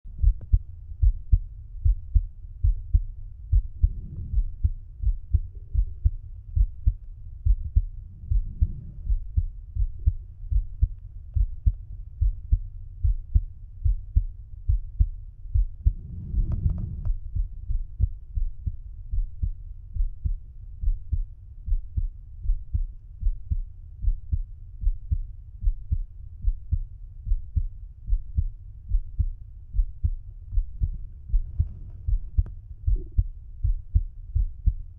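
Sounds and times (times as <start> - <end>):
heartbeat through stethoscope: 0.1 - 34.9
low heart murmur rumbles: 0.1 - 34.9.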